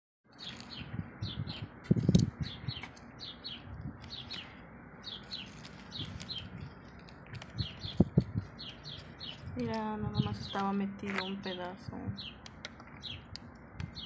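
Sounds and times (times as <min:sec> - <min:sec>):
small bird chirping: 0:00.3 - 0:14.0.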